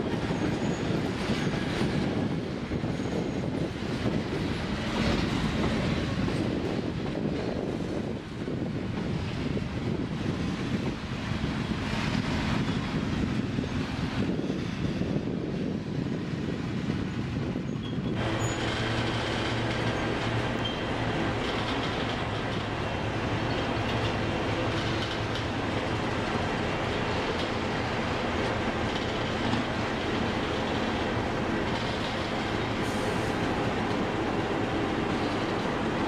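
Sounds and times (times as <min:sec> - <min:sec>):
steel wheels rumbling on rails: 0:00.0 - 0:36.0.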